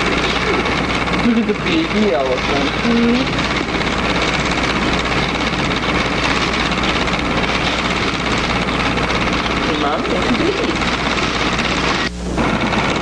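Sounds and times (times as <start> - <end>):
film camera motor whirring: 0.0 - 13.0
low hum: 0.0 - 13.0.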